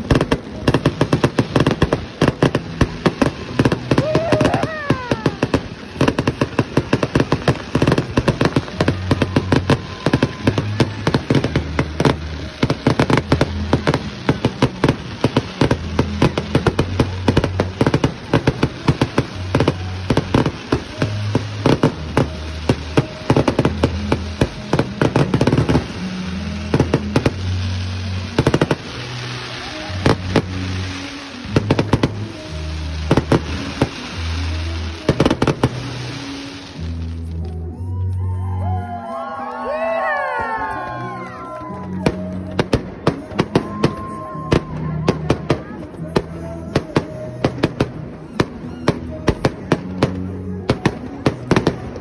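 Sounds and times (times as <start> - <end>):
fireworks crackling and popping: 0.0 - 52.0
music with bass line: 0.0 - 52.0.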